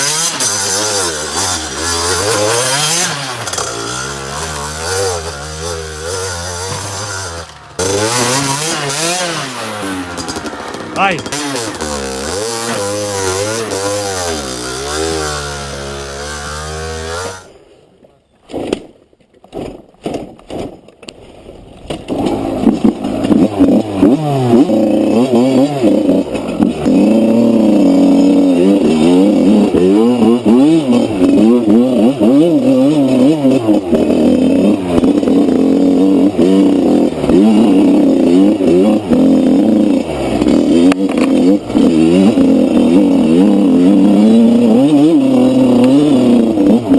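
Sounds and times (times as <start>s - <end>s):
dirt bike engine revving: 0.0s - 17.6s, 22.1s - 46.9s.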